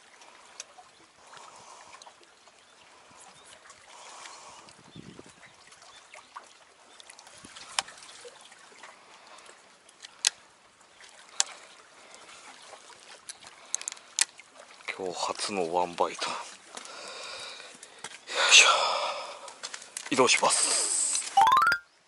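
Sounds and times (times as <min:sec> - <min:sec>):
small waves lapping: 0:00.0 - 0:21.6.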